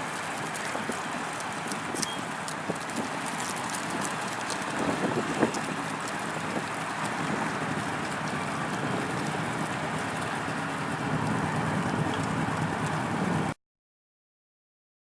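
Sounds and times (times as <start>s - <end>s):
motorcycle engines rumbling: 0.0s - 13.6s.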